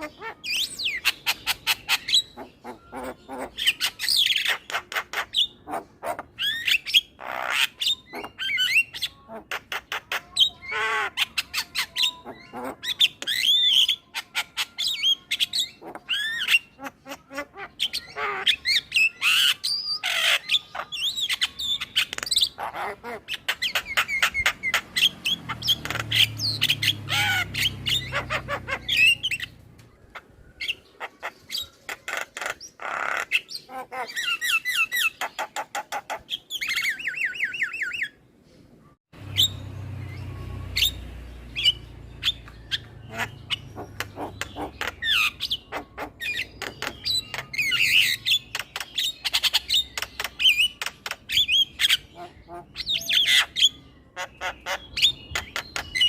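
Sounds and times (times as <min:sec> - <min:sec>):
bird singing chattering song: 0:00.0 - 0:56.0.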